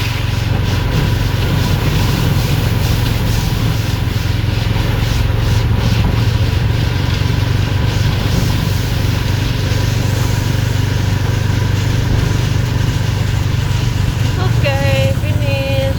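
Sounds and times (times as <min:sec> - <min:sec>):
rain hiss: 0:00.0 - 0:15.9.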